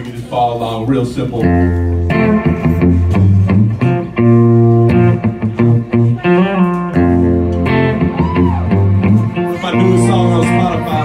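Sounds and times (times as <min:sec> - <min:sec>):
live rock band playing: 0:01.3 - 0:11.0
electric guitar note bends: 0:01.5 - 0:11.0.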